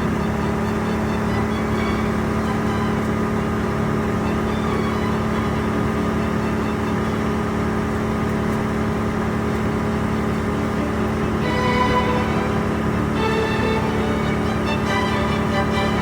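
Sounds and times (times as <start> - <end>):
machinery engine running steadily: 0.0 - 16.0.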